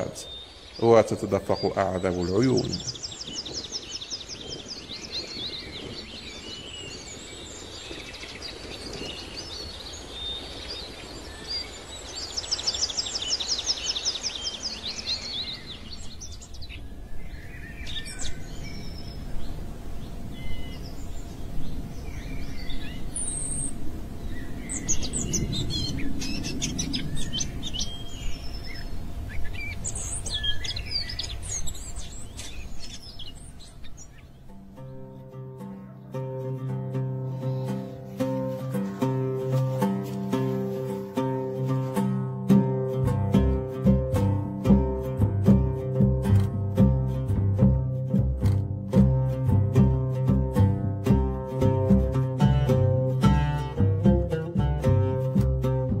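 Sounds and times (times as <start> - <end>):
birds trilling: 0.0 - 55.9
birds chirping: 0.0 - 56.0.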